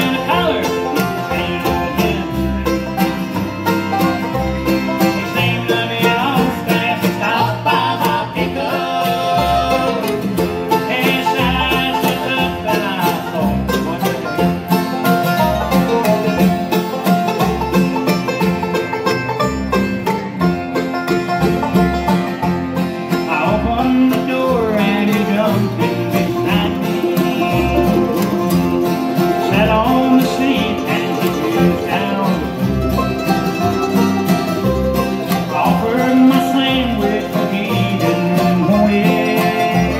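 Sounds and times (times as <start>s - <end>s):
acoustic guitar: 0.0s - 39.9s
banjo picking: 0.0s - 39.9s
fiddle: 0.0s - 39.9s
mandolin: 0.0s - 39.9s
plucked upright bass: 0.0s - 39.9s.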